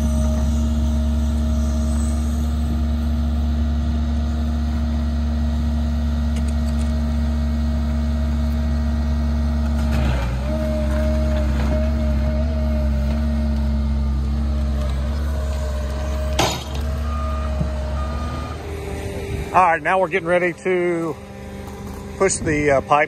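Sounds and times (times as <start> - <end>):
large diesel engine running: 0.0 - 23.0.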